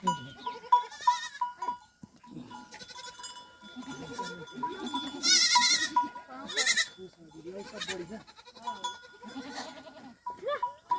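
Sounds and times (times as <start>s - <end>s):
goats bleating: 0.0s - 10.9s.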